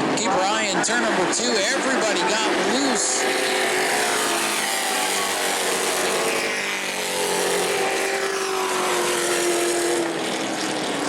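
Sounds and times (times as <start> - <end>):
race truck engines running: 0.0 - 11.0.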